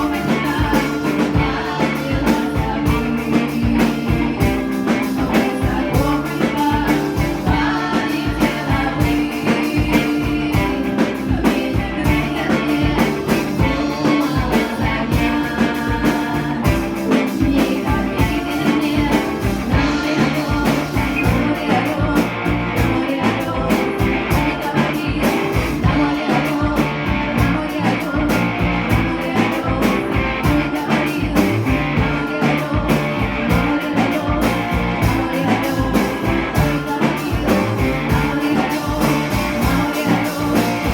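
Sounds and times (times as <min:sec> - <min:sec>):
drum kit beat: 0:00.0 - 0:40.9
folk-rock band playing live: 0:00.0 - 0:40.9.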